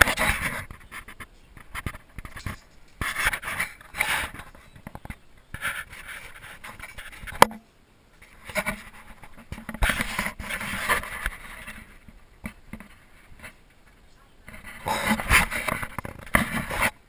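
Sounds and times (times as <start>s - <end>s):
scraping handling noise: 0.0s - 7.6s, 8.2s - 17.0s.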